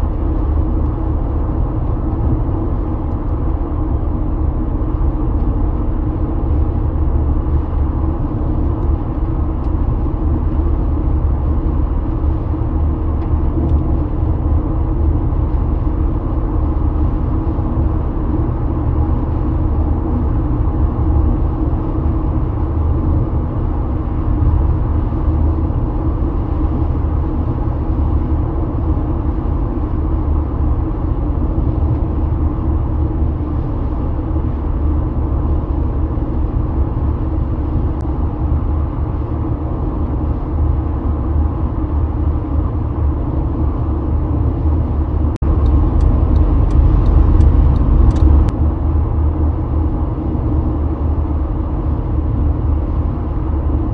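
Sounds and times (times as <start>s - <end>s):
car interior road rumble: 0.0s - 53.9s.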